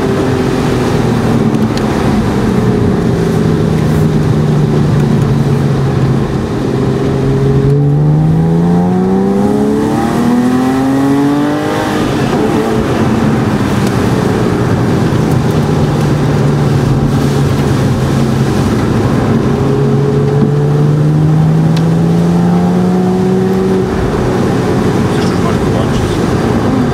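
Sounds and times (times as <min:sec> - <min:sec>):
car engine from inside cabin: 0:00.0 - 0:26.9
tyre noise on wet road: 0:00.0 - 0:26.9.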